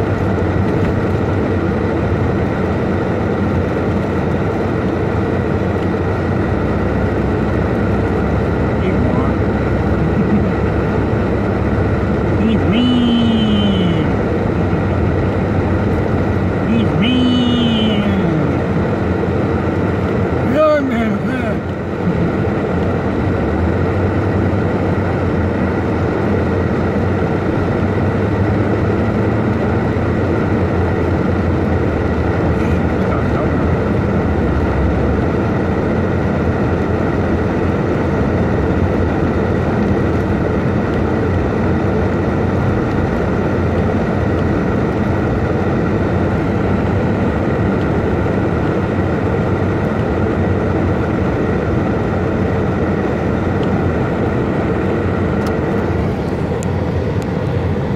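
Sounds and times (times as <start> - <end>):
car engine and tyres on snow: 0.0 - 57.9.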